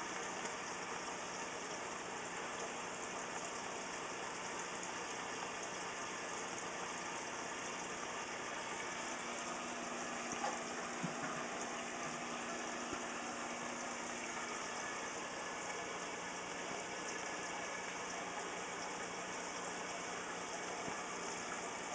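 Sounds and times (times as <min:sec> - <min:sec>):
aquarium pump humming: 0:00.0 - 0:21.9.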